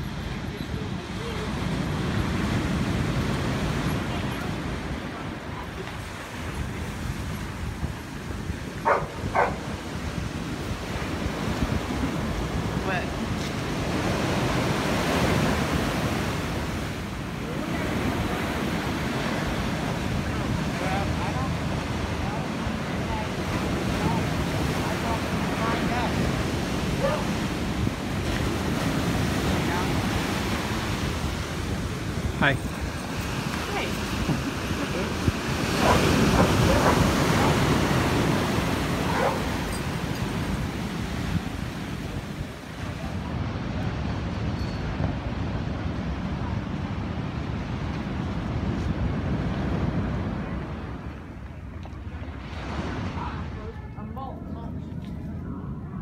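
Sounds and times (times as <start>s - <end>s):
ocean surf breaking on sand: 0.0s - 54.2s
wind buffeting microphone: 0.0s - 56.0s.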